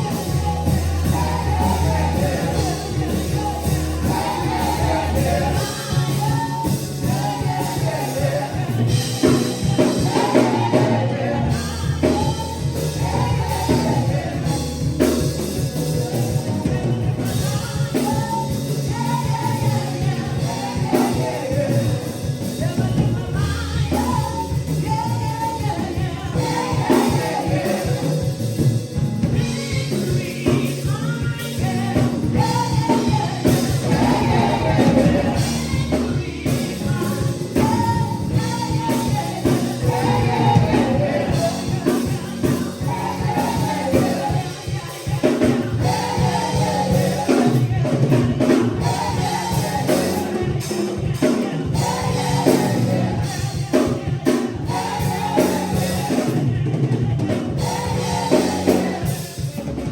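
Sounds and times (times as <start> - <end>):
drum kit: 0.0 - 59.9
gospel singing: 0.0 - 59.9
steady bass line: 0.0 - 59.9.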